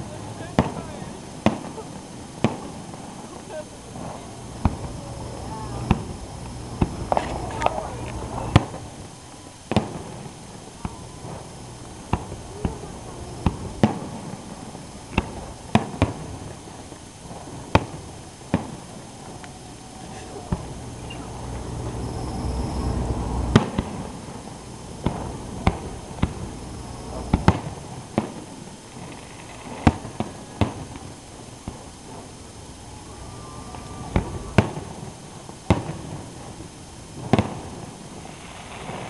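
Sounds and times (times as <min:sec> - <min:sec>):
low rumble: 0:00.0 - 0:38.8
fireworks bursting with bangs: 0:00.0 - 0:39.0.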